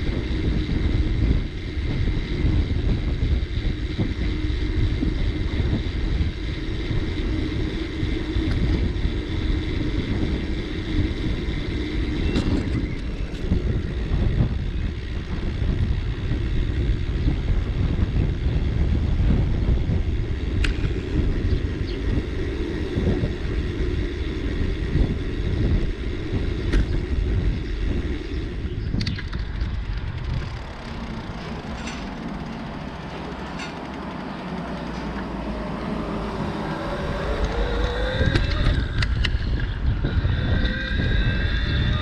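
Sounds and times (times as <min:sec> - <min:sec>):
wind on microphone: 0:00.0 - 0:34.0, 0:34.6 - 0:42.0
bicycle tyres rumbling on path: 0:00.0 - 0:42.0
bike clicks and rattles: 0:00.0 - 0:42.0.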